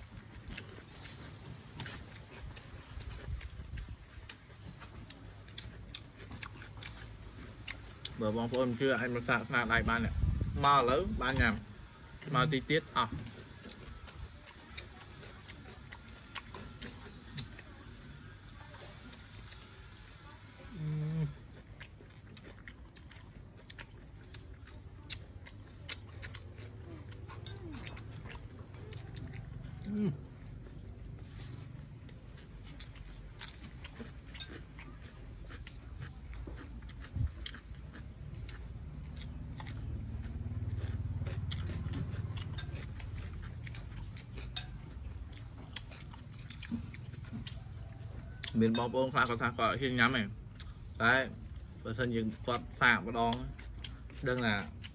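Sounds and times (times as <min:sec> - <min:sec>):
people chewing: 0:00.0 - 0:54.9.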